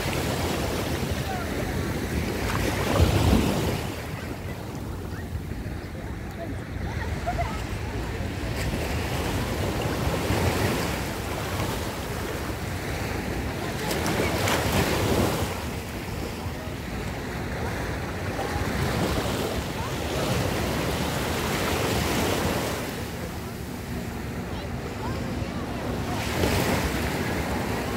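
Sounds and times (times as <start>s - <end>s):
small sea waves breaking: 0.0s - 27.9s.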